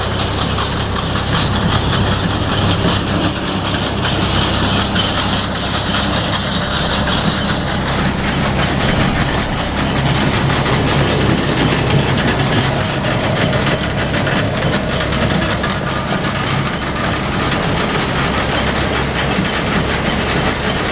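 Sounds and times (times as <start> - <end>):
baler mechanical clatter: 0.0 - 20.9
tractor engine running: 0.0 - 20.9.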